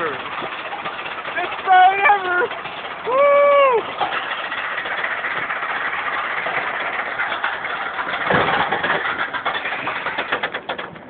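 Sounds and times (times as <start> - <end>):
roller coaster rattling on track: 0.0 - 11.0.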